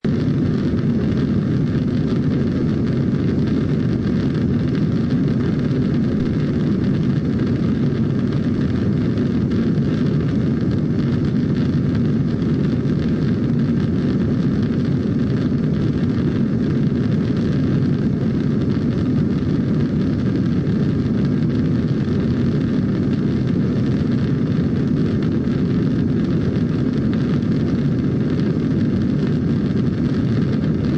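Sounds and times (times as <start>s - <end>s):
deep rocket engine rumble: 0.0s - 30.9s.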